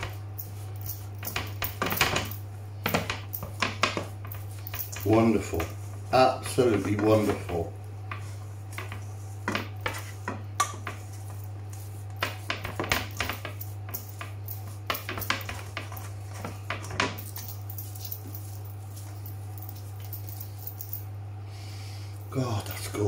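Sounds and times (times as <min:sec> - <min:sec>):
hand mixing in steel bowl: 0:00.0 - 0:20.9
steady low hum: 0:00.0 - 0:23.0.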